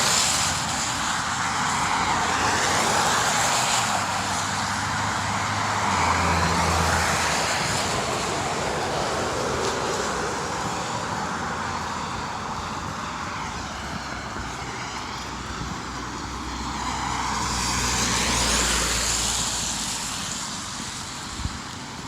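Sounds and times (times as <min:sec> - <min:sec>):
cars passing on a street: 0:00.0 - 0:22.0.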